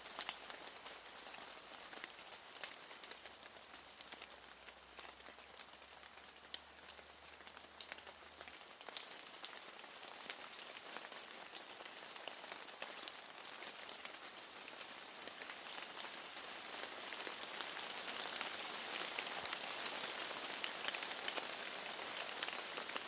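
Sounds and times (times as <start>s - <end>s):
raindrops ticking: 0.0s - 20.1s
steady rain: 0.0s - 23.0s.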